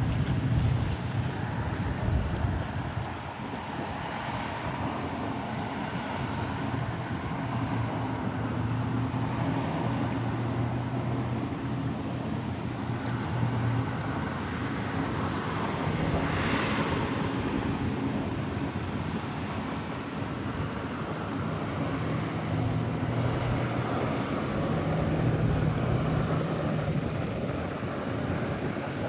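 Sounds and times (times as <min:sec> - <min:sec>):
engine drone: 0:00.0 - 0:29.0
surf: 0:00.0 - 0:29.0
wind: 0:00.0 - 0:29.0.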